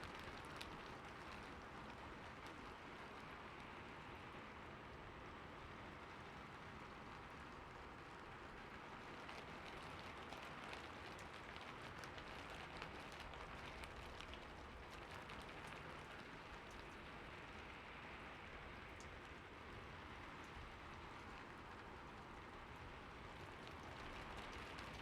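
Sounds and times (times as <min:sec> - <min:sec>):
rain on hard surfaces: 0:00.0 - 0:25.0.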